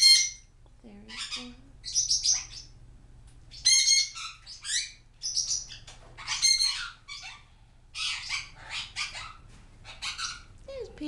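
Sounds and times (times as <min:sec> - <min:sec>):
parrots squawking and chirping: 0:00.0 - 0:02.7, 0:03.5 - 0:10.6.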